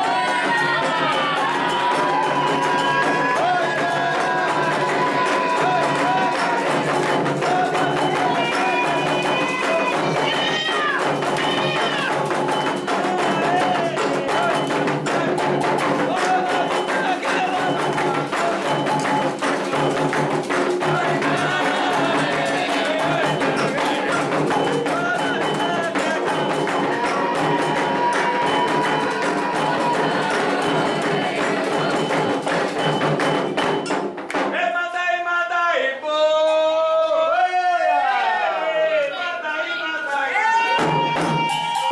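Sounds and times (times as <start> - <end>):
voices singing a chant: 0.0 - 33.9, 34.5 - 41.9
fast hand drumming: 0.0 - 34.6, 40.7 - 41.9.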